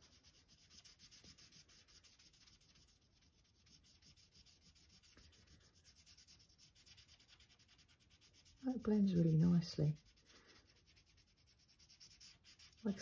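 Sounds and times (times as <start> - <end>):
blending stump scratching paper: 0.0 - 13.0.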